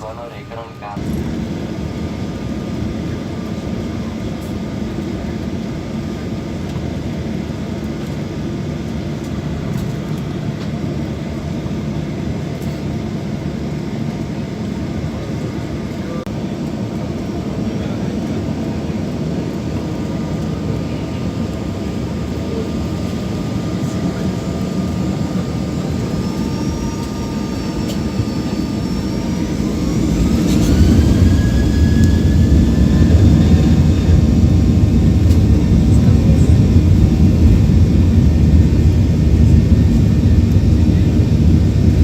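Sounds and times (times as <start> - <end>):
jet engines rumbling in cabin: 0.0 - 42.0
jet engines spooling up whine: 0.0 - 42.0.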